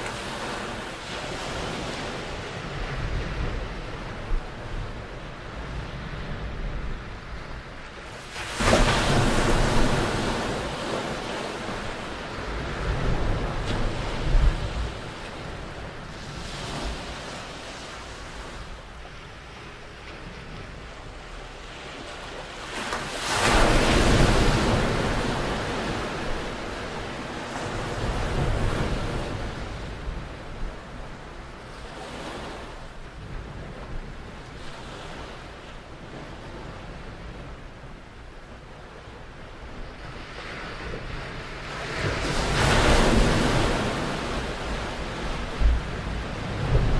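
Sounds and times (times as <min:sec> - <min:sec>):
larger waves breaking: 0:00.0 - 0:35.6, 0:39.8 - 0:46.9
small waves breaking on shore: 0:00.0 - 0:46.9.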